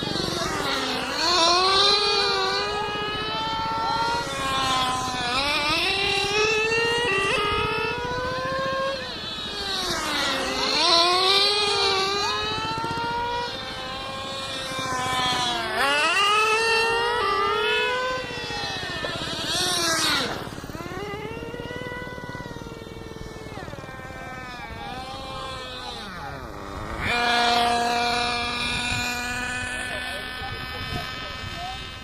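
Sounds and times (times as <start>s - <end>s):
rc car engines revving: 0.0s - 32.0s.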